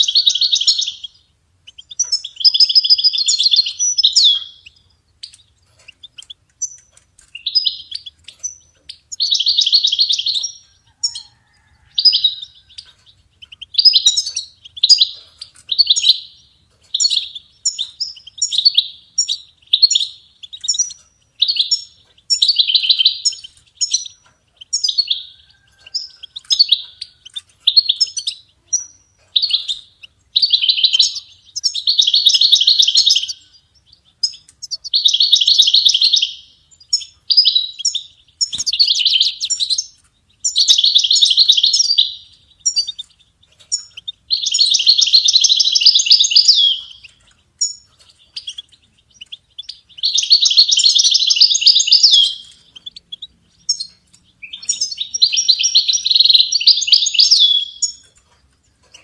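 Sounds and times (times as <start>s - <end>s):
finch twittering and trilling: 0.0s - 59.0s.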